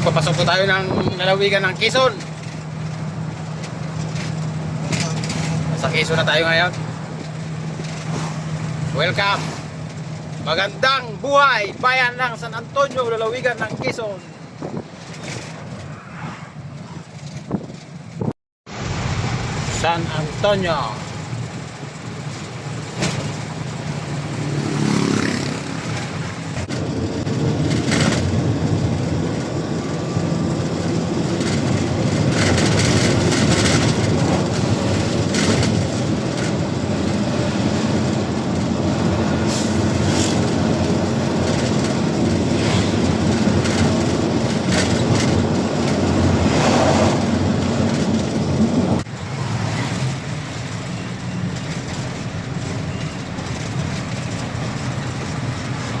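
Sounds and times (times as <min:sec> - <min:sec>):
truck engine and road noise: 0:00.0 - 0:56.0
rattles: 0:00.1 - 0:18.3, 0:20.4 - 0:49.1.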